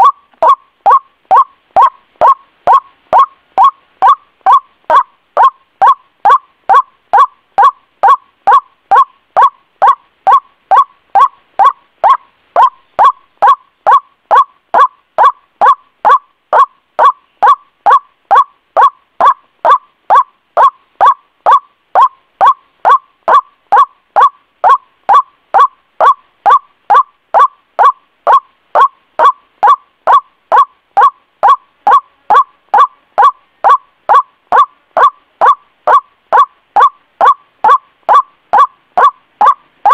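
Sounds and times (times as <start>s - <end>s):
bird croaking call: 0.0s - 39.9s.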